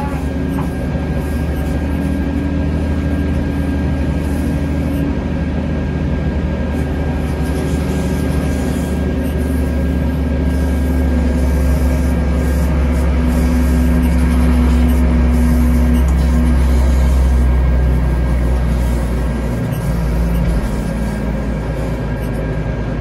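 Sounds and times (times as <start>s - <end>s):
low machinery drone: 0.0s - 23.0s.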